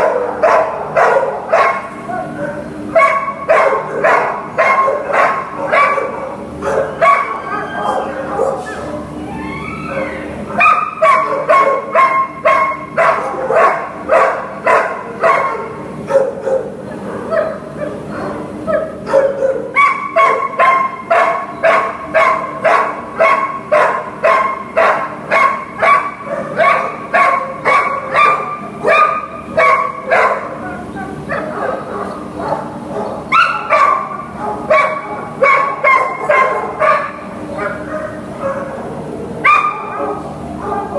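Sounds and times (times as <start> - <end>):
dog barking: 0.0 - 8.8, 10.6 - 40.9.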